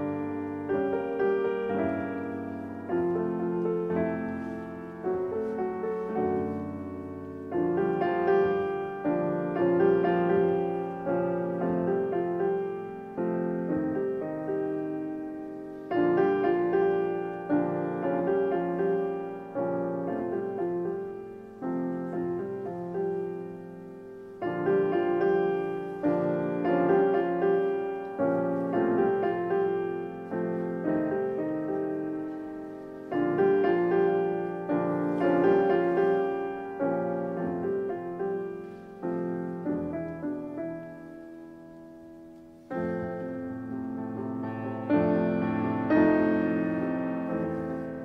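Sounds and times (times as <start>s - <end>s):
solo piano chords: 0.0s - 48.0s.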